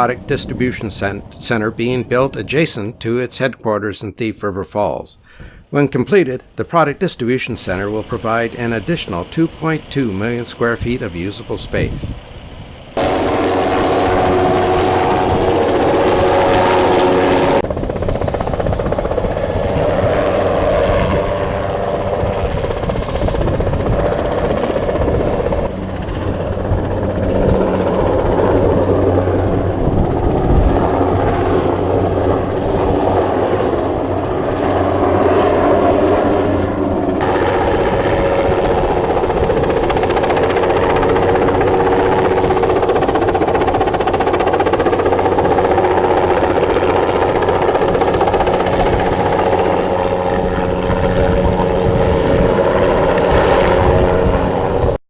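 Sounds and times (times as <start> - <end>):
helicopter rotor beat: 6.8 - 55.0
helicopter engine whine: 7.2 - 55.0.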